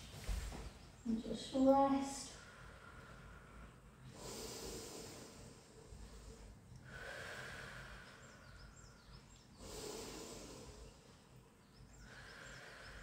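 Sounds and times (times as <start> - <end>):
person breathing slowly: 2.3 - 13.0.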